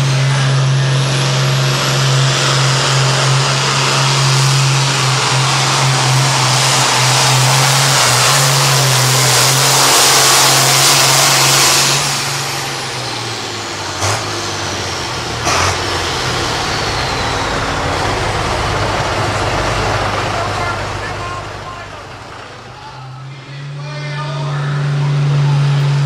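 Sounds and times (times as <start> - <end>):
high whine: 0.0 - 26.0
tractor diesel engine: 0.0 - 26.0.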